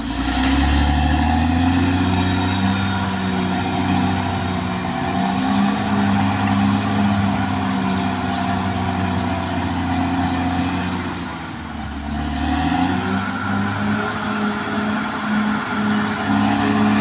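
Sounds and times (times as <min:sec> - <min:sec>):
bulldozer diesel engine working: 0:00.0 - 0:17.0.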